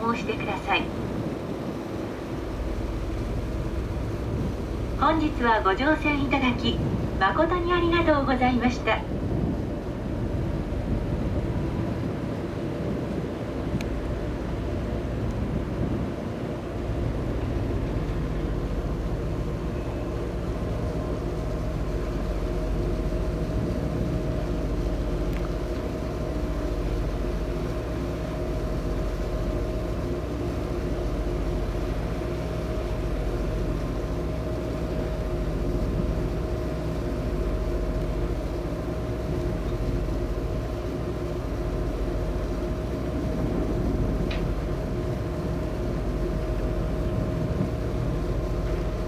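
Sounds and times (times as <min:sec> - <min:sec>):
ship engines droning: 0:00.0 - 0:49.0.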